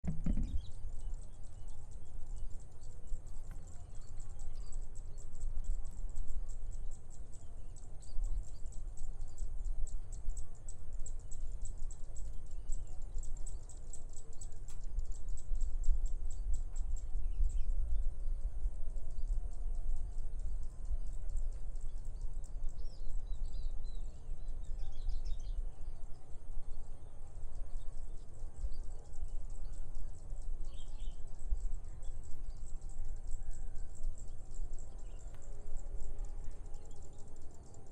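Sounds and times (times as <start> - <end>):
bird chirps: 0.0 - 37.9.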